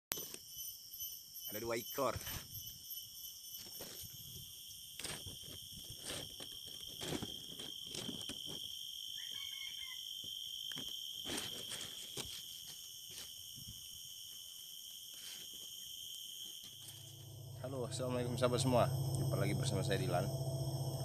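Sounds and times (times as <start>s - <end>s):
insects droning: 0.2s - 21.0s.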